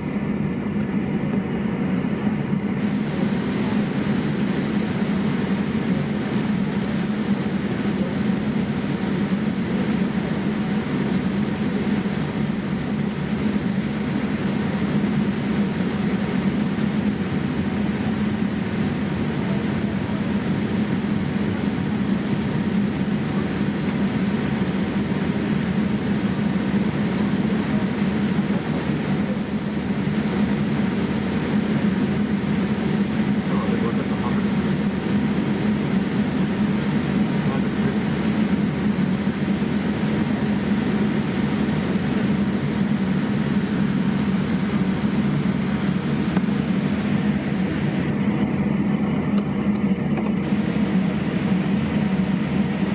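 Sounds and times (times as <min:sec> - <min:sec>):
airliner cabin air and engine noise: 0:00.0 - 0:52.9.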